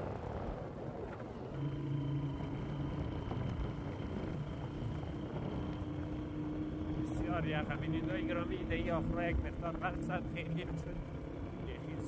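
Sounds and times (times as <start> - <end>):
vehicle engine running: 0.3 - 12.0.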